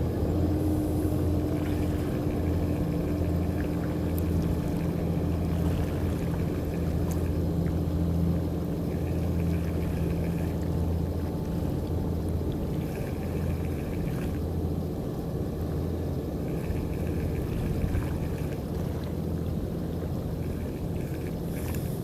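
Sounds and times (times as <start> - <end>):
low engine drone: 0.0 - 22.0
water sloshing and lapping: 0.0 - 22.0.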